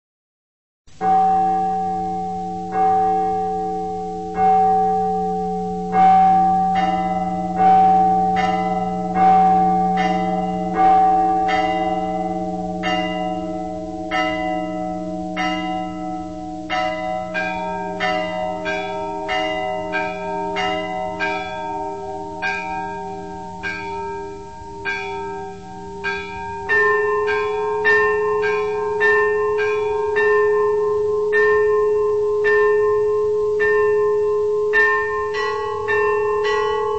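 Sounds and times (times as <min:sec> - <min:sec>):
big church bell striking: 0:00.9 - 0:36.9
smaller bells ringing quickly: 0:01.0 - 0:36.9.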